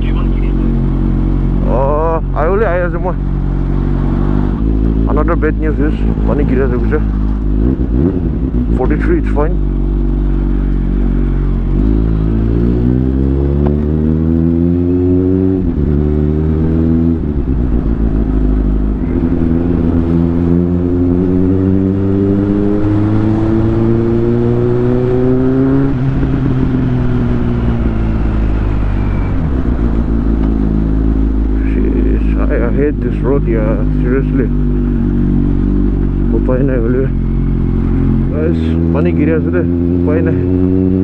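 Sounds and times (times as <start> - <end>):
motorcycle engine shifting gears: 0.6 - 41.0.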